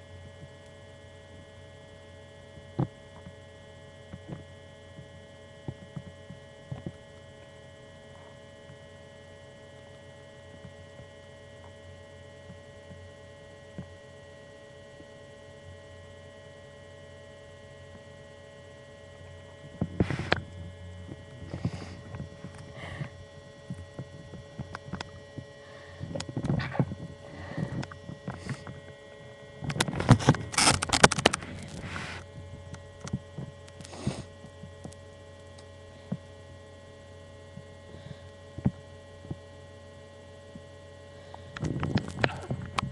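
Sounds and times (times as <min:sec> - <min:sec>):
steady electrical hum: 0:00.0 - 0:42.9.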